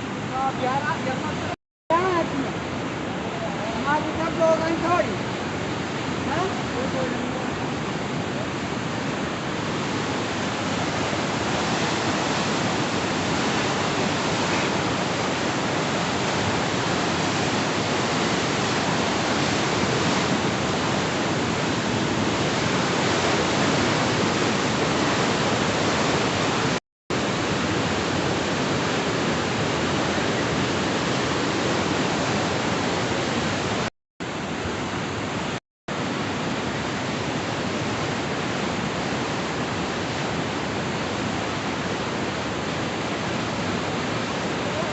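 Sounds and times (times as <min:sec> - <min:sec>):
river rushing: 0:00.0 - 0:44.9.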